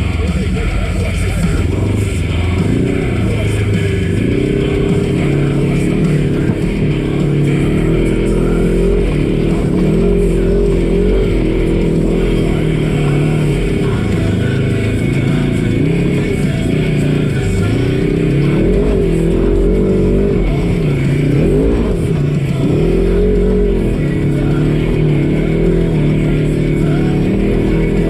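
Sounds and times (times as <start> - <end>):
background music: 0.0 - 28.0
off-road vehicle engine revving: 0.0 - 28.0.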